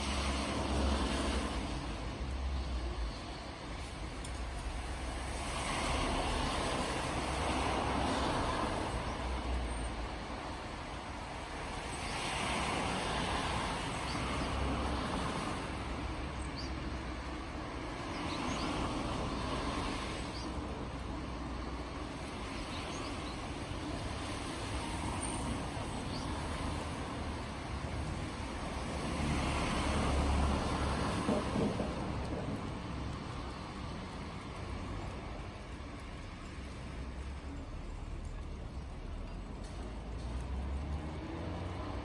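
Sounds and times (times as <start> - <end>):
distant road traffic: 0.0 - 42.0.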